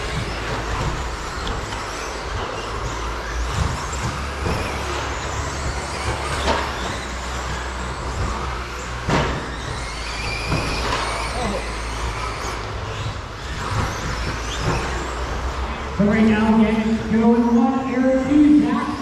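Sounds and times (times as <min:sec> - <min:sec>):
electric motors whining: 0:00.0 - 0:19.0
tyres running on track: 0:00.0 - 0:19.0.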